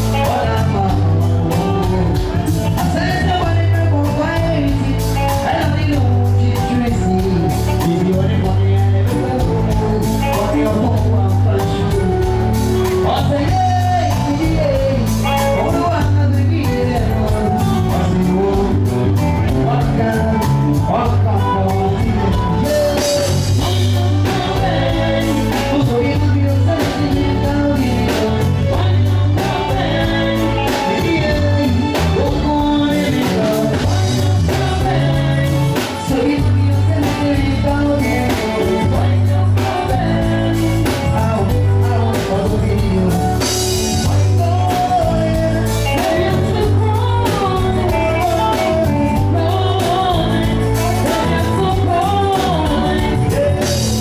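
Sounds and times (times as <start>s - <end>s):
drums: 0.0s - 54.0s
heavy repeating bass line: 0.0s - 54.0s
live band playing loudly: 0.0s - 54.0s
person singing: 0.0s - 54.0s.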